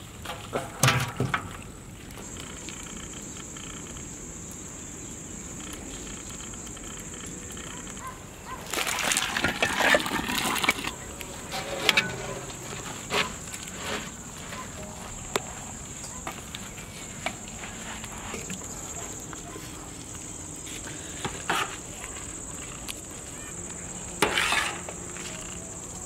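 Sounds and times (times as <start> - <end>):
scraping and clicking handling noise: 0.2 - 4.1, 5.6 - 26.0.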